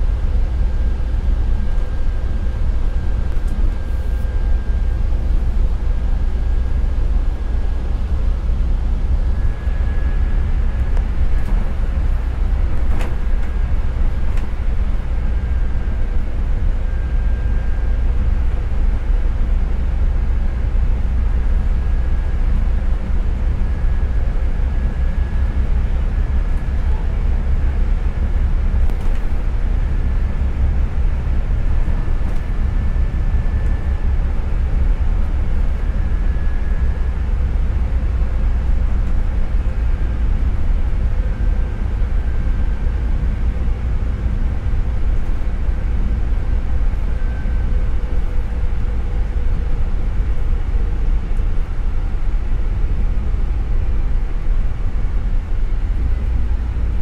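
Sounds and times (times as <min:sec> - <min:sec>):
bus engine and road rumble: 0:00.0 - 0:57.0
faint high whine: 0:00.0 - 0:57.0.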